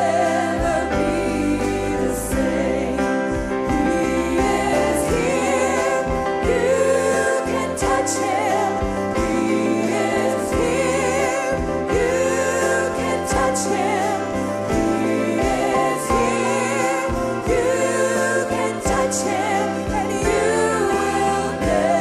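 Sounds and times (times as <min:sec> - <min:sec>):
backing singers: 0:00.0 - 0:22.0
live band playing: 0:00.0 - 0:22.0
woman singing with vibrato: 0:00.0 - 0:22.0.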